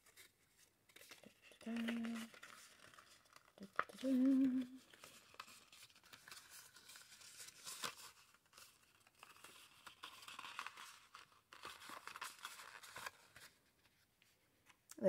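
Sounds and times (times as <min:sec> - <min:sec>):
card rustling and crinkling: 0:00.0 - 0:14.9.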